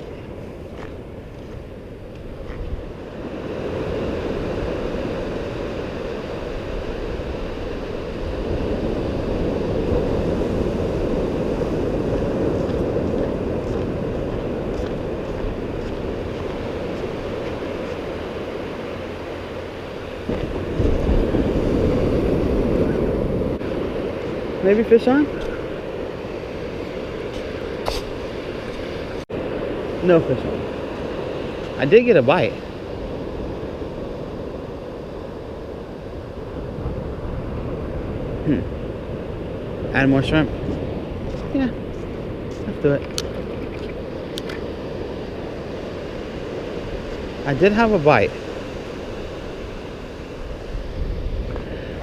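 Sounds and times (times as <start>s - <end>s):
ocean surf washing up beach: 0.0s - 52.0s
wind buffeting microphone: 0.0s - 52.0s.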